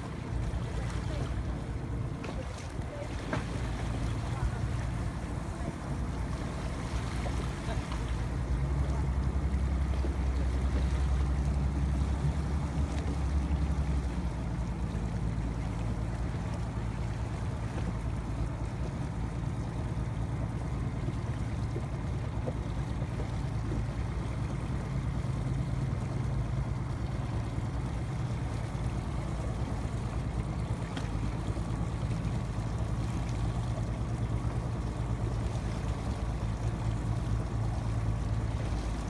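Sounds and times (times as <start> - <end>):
motorboat engine humming: 0.0 - 39.0.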